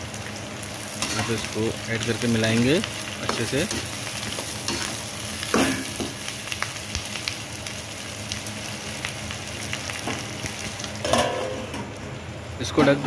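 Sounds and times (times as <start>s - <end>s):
vegetables sizzling in hot oil: 0.0s - 12.6s.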